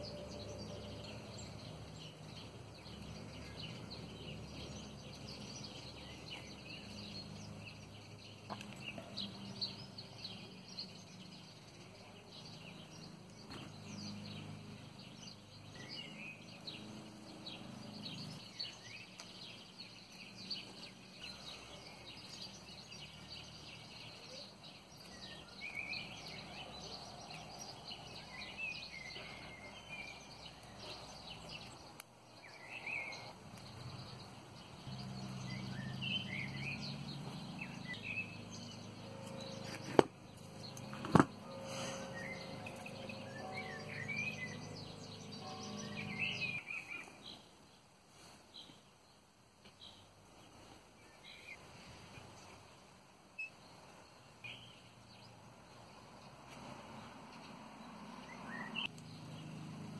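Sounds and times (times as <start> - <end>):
birds chirping: 0.0 - 47.9, 48.5 - 59.9.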